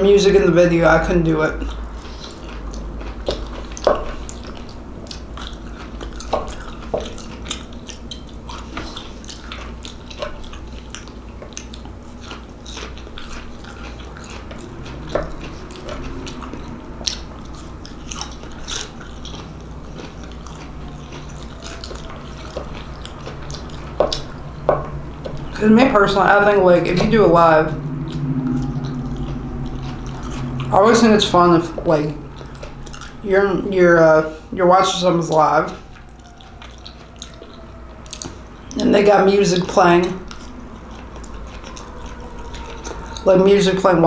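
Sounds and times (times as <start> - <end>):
low steady hum: 0.0 - 44.0
person chewing vegetables: 0.0 - 44.0.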